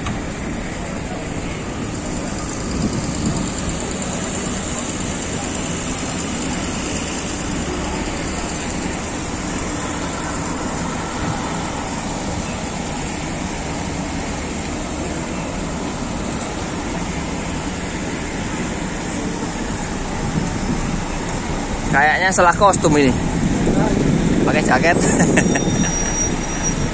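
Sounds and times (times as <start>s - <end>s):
low traffic rumble: 0.0s - 26.9s.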